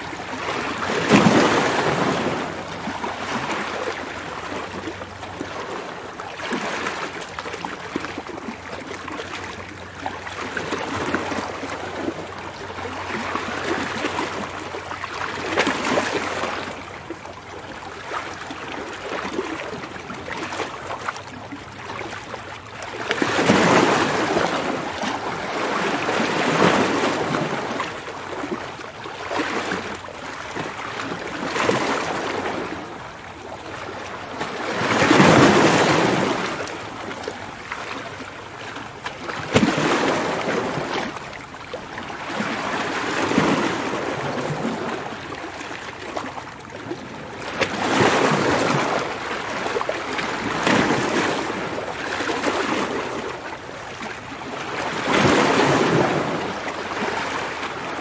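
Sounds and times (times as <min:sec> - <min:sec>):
waves breaking and washing in: 0:00.0 - 0:58.0.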